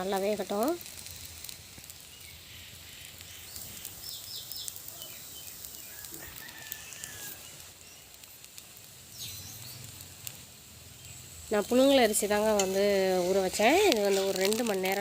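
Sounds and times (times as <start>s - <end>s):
faint frying sizzle: 0.0s - 15.0s.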